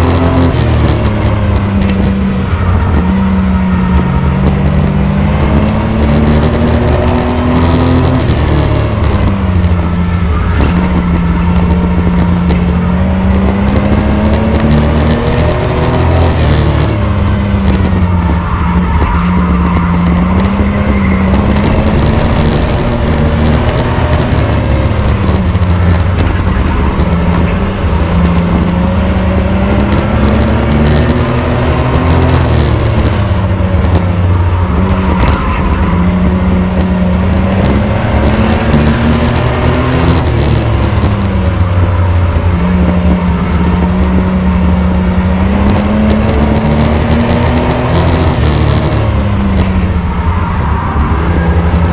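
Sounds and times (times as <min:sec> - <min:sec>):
racing truck engine revving: 0:00.0 - 0:51.9
road and tire noise: 0:00.0 - 0:51.9.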